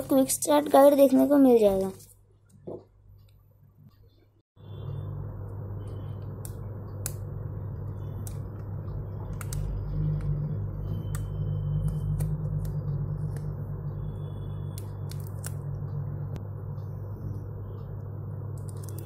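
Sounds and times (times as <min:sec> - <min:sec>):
steady low hum: 0:02.3 - 0:19.0.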